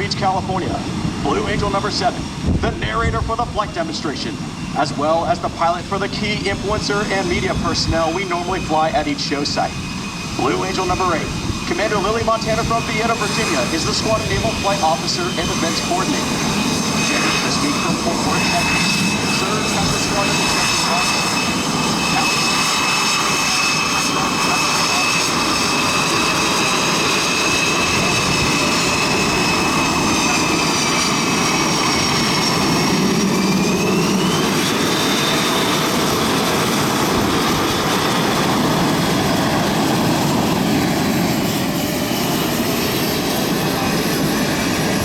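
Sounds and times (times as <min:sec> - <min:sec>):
high turbine whine: 0:00.0 - 0:45.0
jet engines roaring: 0:00.0 - 0:45.0.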